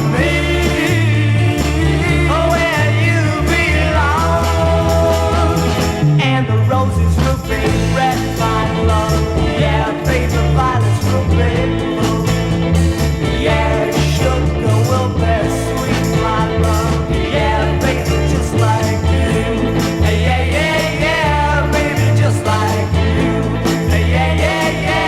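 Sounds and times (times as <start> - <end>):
garage rock instrumental: 0.0 - 25.0.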